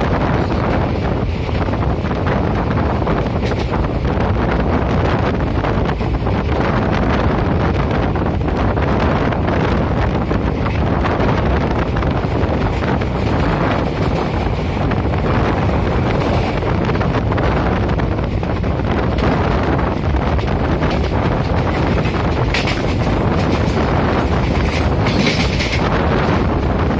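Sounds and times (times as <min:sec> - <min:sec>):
train rumbling: 0:00.0 - 0:26.9
wind buffeting microphone: 0:00.0 - 0:26.9.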